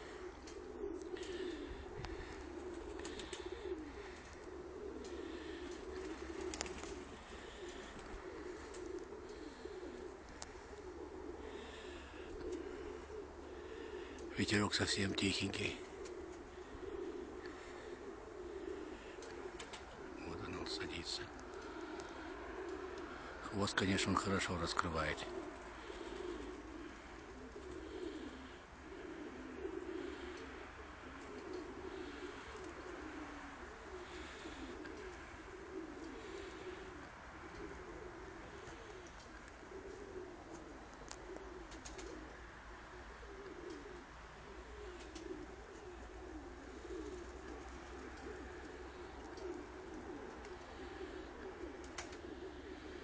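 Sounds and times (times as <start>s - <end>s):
pigeons cooing: 0.0s - 53.0s.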